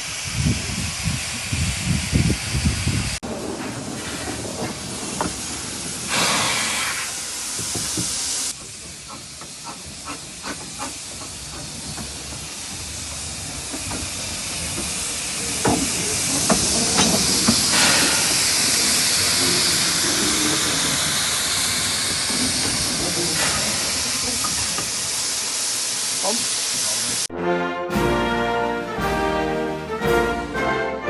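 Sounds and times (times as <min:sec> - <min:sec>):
steam locomotive hissing: 0:00.0 - 0:27.3.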